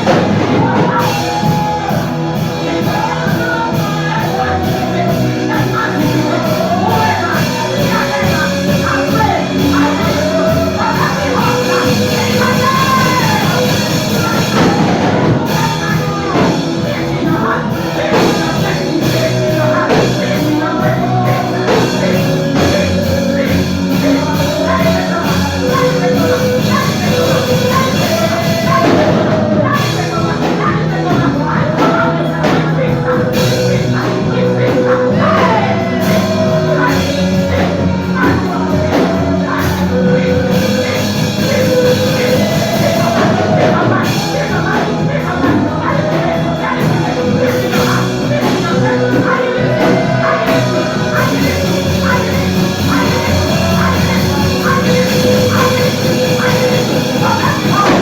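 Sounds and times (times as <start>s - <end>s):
music with singing over a beat: 0.0s - 58.0s.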